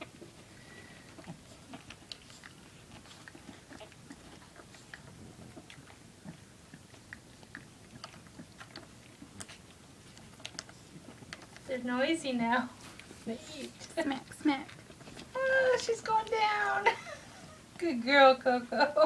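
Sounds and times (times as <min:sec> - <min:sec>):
puppies sucking and smacking: 0:00.0 - 0:19.0.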